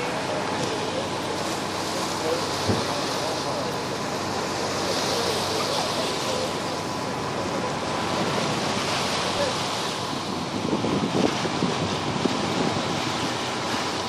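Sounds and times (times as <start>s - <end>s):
water and wind rushing: 0.0s - 14.0s.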